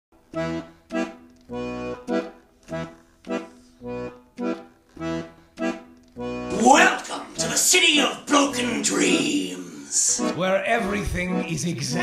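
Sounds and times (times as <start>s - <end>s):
accordion playing chords: 0.2s - 12.0s.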